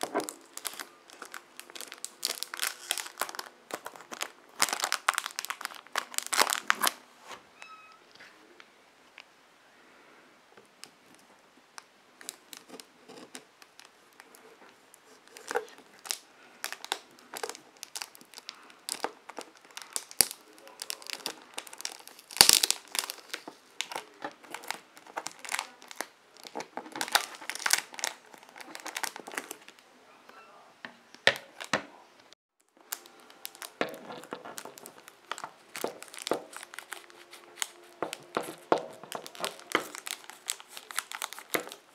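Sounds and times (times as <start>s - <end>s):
plastic wrap crinkling: 0.0s - 7.4s, 10.8s - 29.8s, 32.6s - 41.9s.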